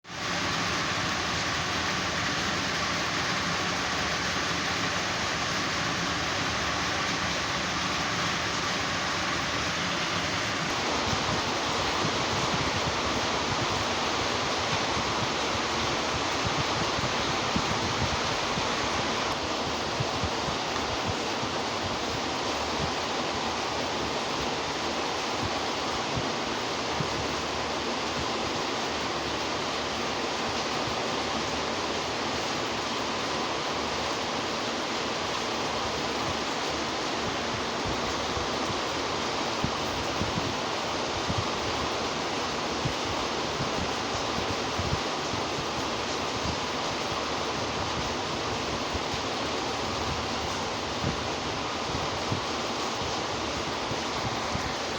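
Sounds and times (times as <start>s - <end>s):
steady hiss-like rushing noise: 0.0s - 54.9s.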